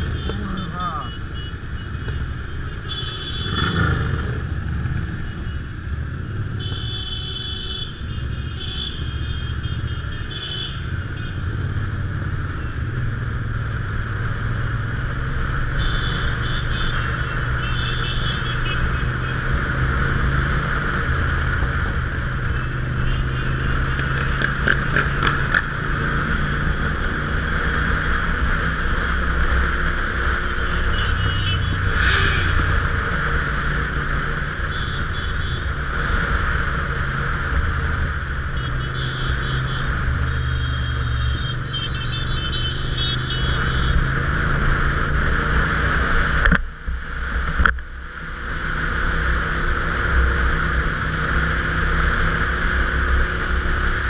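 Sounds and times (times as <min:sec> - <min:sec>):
other motorcycle engines: 0:00.0 - 0:54.0.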